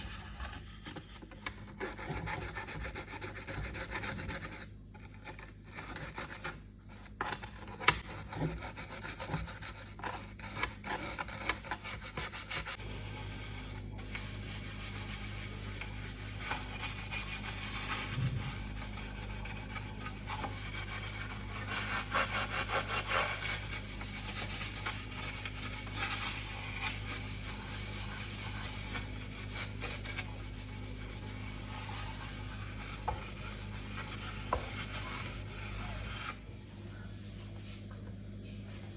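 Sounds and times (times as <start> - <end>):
scrubbing and rubbing strokes: 0.0 - 36.6
steady low hum: 0.0 - 38.9.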